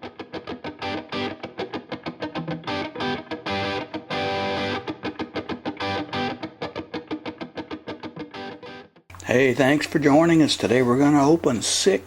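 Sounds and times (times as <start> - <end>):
distorted electric guitar: 0.0 - 11.6.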